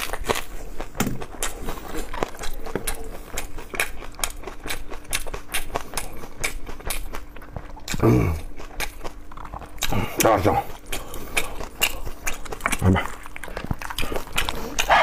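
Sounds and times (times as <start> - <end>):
person chewing meat: 0.0 - 15.0.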